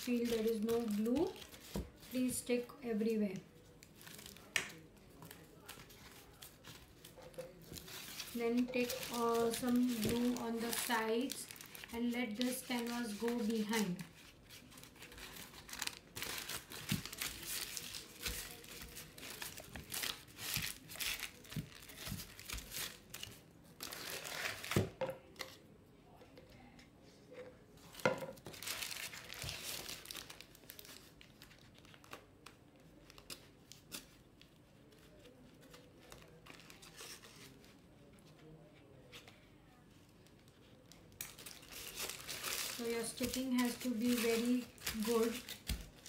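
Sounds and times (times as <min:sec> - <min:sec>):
tissue paper crinkling: 0:00.0 - 0:02.3, 0:05.1 - 0:24.8, 0:27.9 - 0:38.5, 0:40.3 - 0:46.0.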